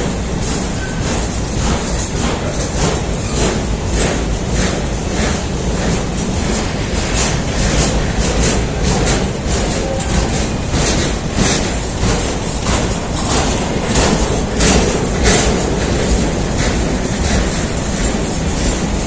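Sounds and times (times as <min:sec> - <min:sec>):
train rumbling on rails: 0:00.0 - 0:19.0
wheels clicking over rail joints: 0:00.0 - 0:19.0.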